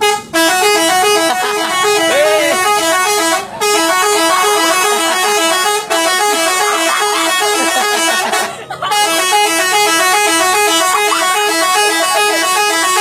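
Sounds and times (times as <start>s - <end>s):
musical multi-tone bus horn: 0.0s - 13.0s.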